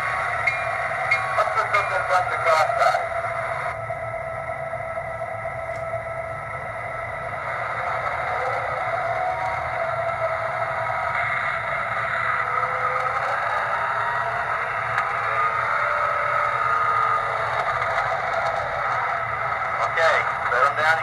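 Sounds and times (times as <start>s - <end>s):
model train running: 0.0s - 21.0s.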